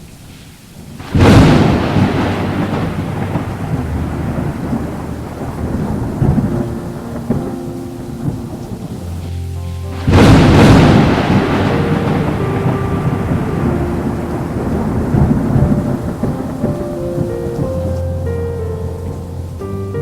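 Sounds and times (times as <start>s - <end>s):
steady rain: 0.0s - 20.0s
thunder clap and rumble: 0.2s - 20.0s.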